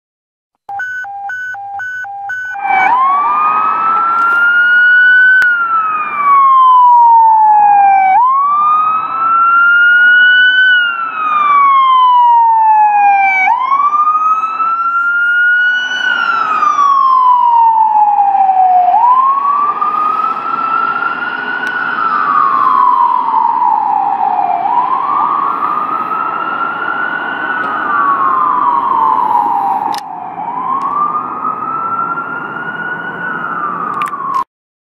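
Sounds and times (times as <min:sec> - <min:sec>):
road noise: 0:00.6 - 0:34.4
siren wailing: 0:00.7 - 0:34.4.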